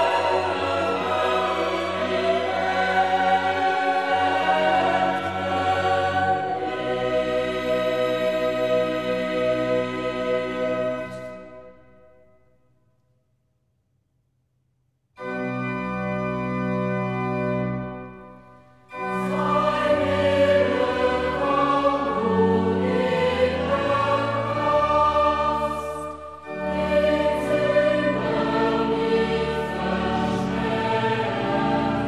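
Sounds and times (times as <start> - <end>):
choir singing with accompaniment: 0.0 - 12.2, 17.8 - 32.0.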